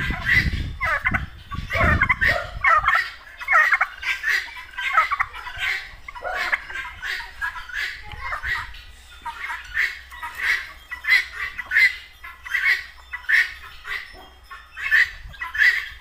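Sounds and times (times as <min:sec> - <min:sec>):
turkeys and guinea fowl calling: 0:00.0 - 0:16.0.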